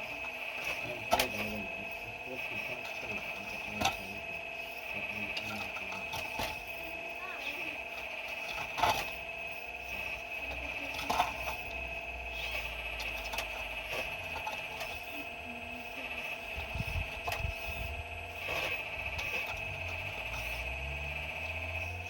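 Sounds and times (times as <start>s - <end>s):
excavator mechanical whine: 0.0s - 22.0s.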